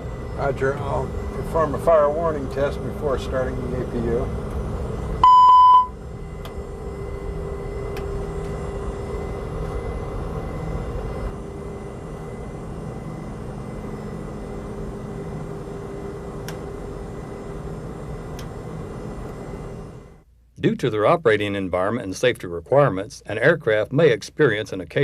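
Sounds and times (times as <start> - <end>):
aircraft cockpit rumble and hum: 0.0 - 20.6.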